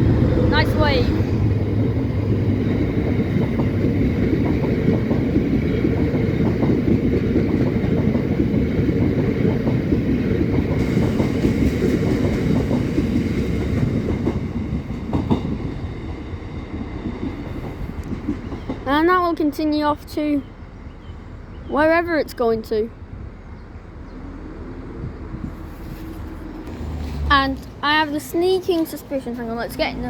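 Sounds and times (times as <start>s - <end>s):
locomotive engine: 0.0s - 30.0s
train rumble: 0.0s - 30.0s.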